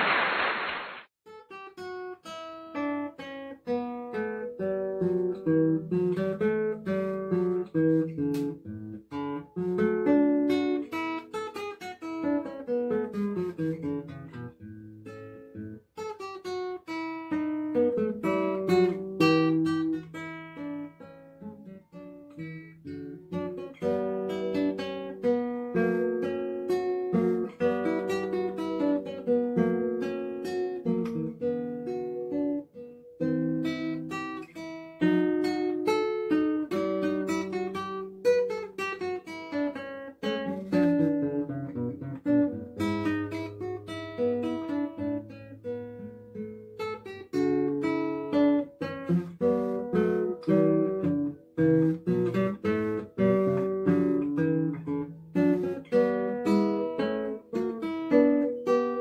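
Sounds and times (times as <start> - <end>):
fingerpicked classical guitar: 1.3 - 59.0.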